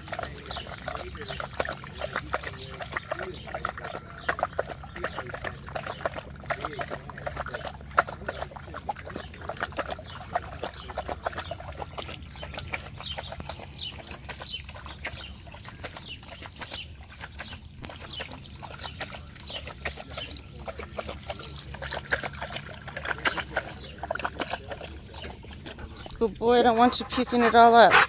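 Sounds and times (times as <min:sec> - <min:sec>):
dog lapping water: 0:00.0 - 0:28.0.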